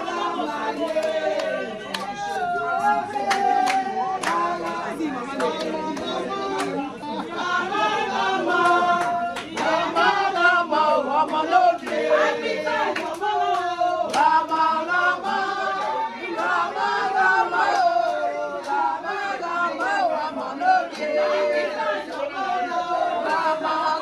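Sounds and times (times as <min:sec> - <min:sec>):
handclaps: 0:00.0 - 0:07.4, 0:08.4 - 0:24.0
group of people singing: 0:00.0 - 0:24.0.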